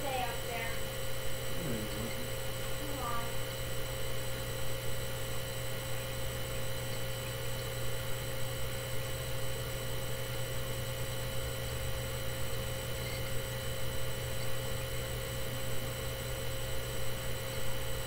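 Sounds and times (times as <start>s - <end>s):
high steady whine: 0.0s - 18.0s
low electrical hum: 0.0s - 18.0s.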